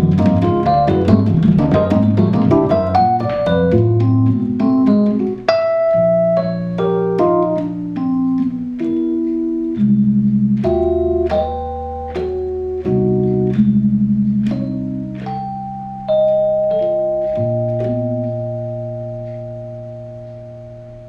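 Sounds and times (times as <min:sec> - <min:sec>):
accordion jazz improvisation: 0:00.0 - 0:19.8.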